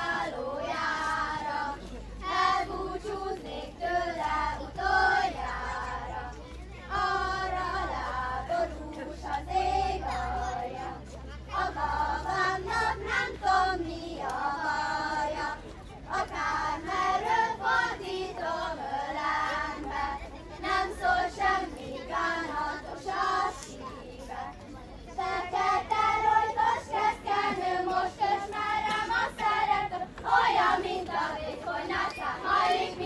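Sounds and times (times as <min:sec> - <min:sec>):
children singing a folk song: 0:00.0 - 0:33.0.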